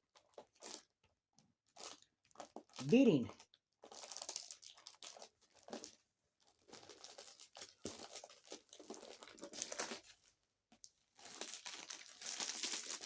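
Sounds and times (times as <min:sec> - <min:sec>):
parcel wrapping crinkling: 0:00.2 - 0:00.9, 0:01.6 - 0:13.0.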